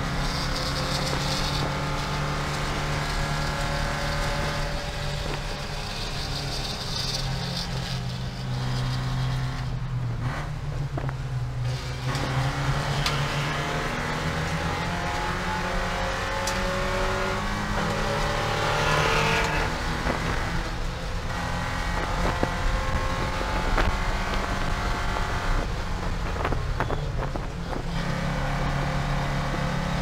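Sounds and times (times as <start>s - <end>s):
race car engine revving: 0.0s - 10.6s, 11.6s - 30.0s.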